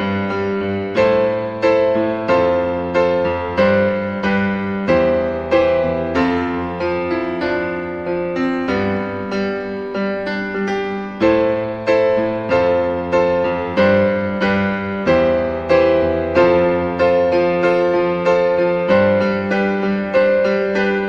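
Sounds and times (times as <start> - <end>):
piano playing evenly spaced notes: 0.0 - 21.0.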